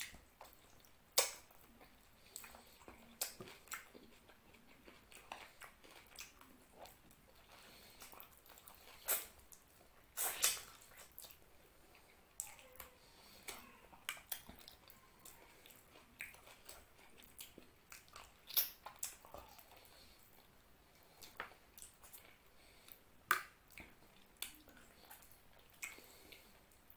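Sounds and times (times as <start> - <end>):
lip smacks: 0.0 - 11.4, 12.0 - 20.5, 21.1 - 26.9
fingers squishing food: 0.0 - 26.9
wet chewing: 0.0 - 26.9.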